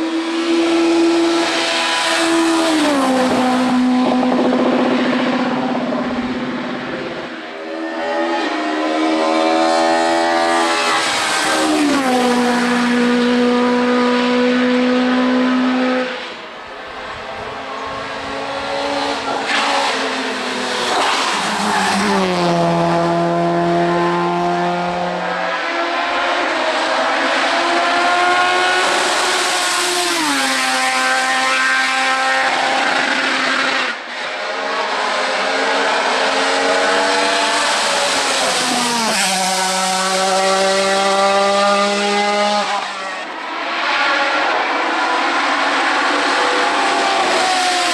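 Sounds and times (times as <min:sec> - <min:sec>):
race car engines at high revs: 0:00.0 - 0:47.9.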